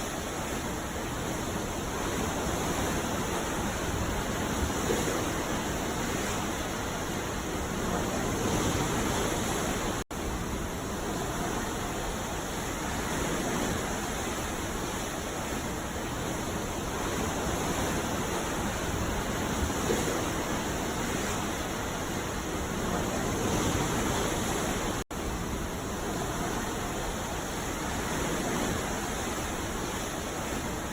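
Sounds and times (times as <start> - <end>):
ocean waves breaking: 0.0 - 30.9.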